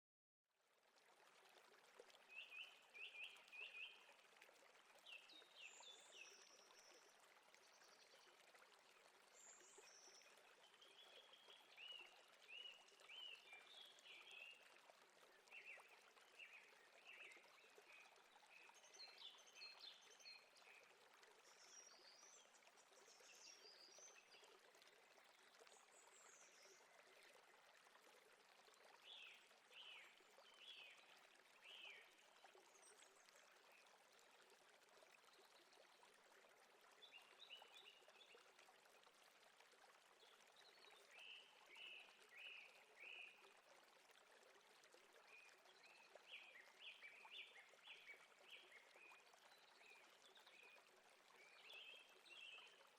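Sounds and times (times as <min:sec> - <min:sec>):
stream running: 0:00.6 - 0:52.9.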